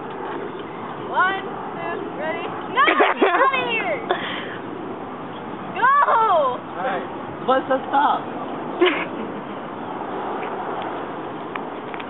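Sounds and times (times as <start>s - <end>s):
street background noise: 0.0s - 12.0s.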